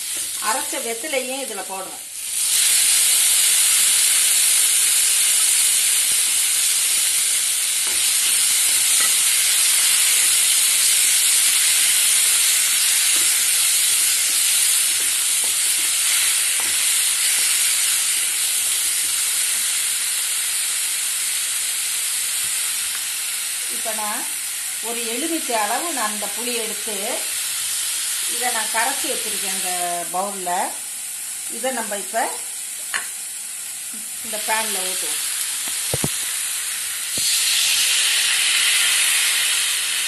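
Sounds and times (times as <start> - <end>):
spices sizzling in hot oil: 0.0 - 40.0.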